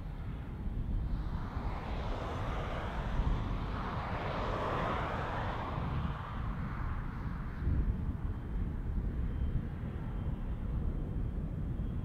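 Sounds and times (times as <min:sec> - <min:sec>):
jet engine roar: 0:01.1 - 0:10.8.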